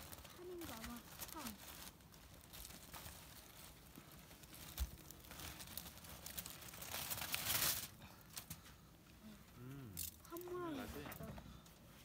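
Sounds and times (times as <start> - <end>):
aluminium foil crinkling: 0.0 - 8.7, 10.0 - 11.3.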